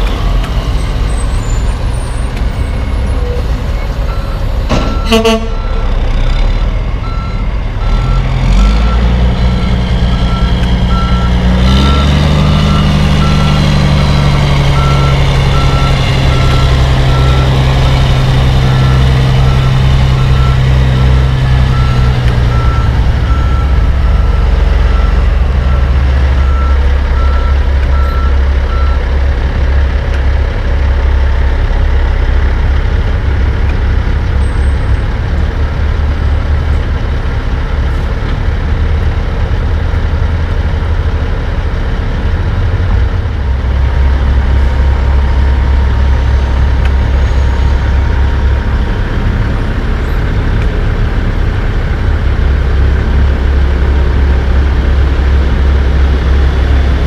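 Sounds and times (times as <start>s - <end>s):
truck diesel engine pulling: 0.0s - 57.0s.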